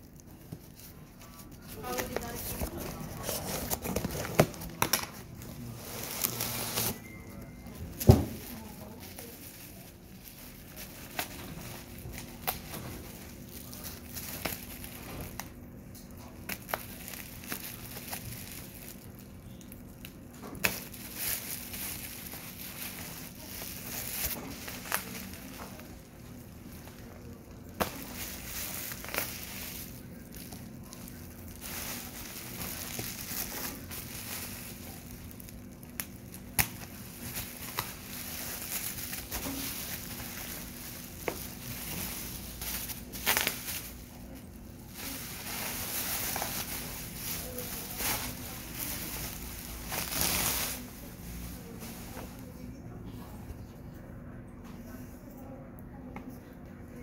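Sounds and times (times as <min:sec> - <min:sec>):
bubble wrap crinkling and crackling: 0:00.0 - 0:53.3.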